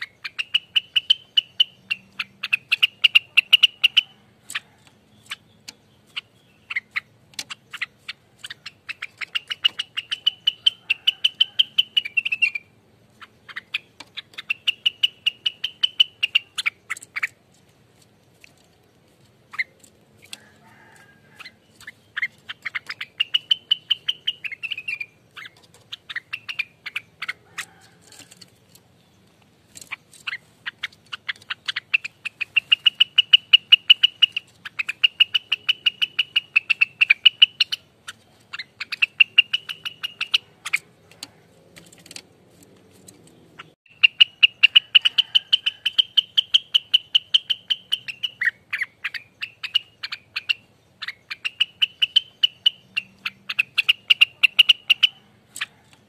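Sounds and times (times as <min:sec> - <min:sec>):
bird singing rapid sharp notes: 0:00.0 - 0:56.0.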